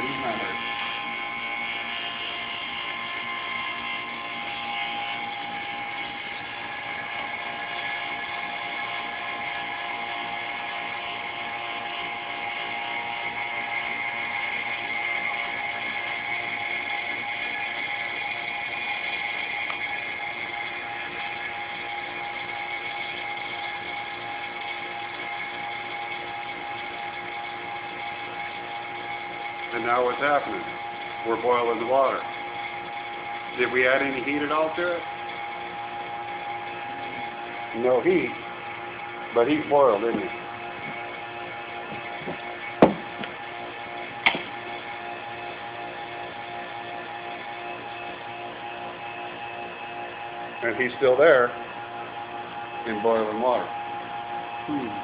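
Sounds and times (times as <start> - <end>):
vacuum pump motor whine: 0.0 - 55.0.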